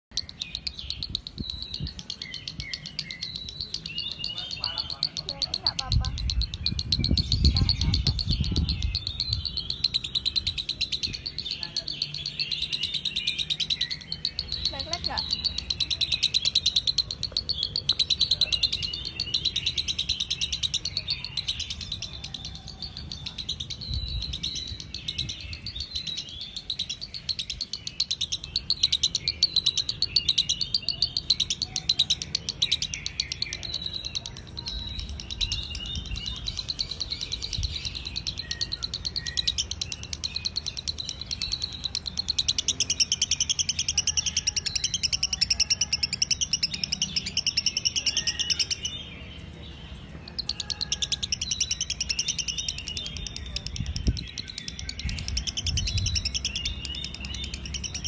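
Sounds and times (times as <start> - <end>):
lovebird chattering: 0.0 - 49.3, 50.3 - 58.0.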